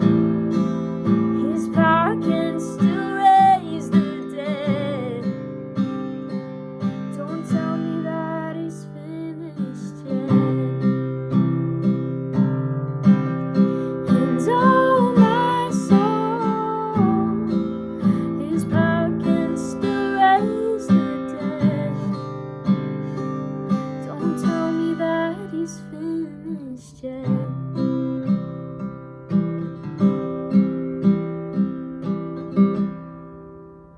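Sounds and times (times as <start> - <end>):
guitar strumming: 0.0 - 9.0, 10.0 - 26.4, 27.3 - 33.9.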